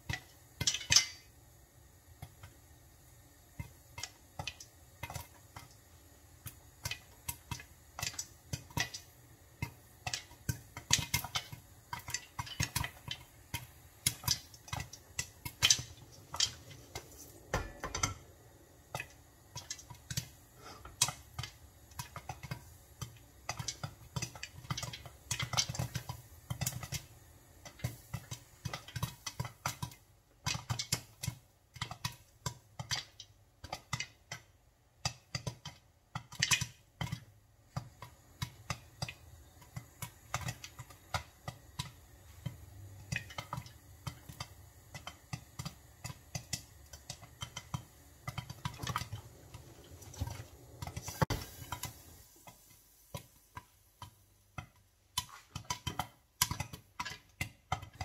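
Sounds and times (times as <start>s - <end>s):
popcorn popping in covered pan: 0.0s - 58.0s.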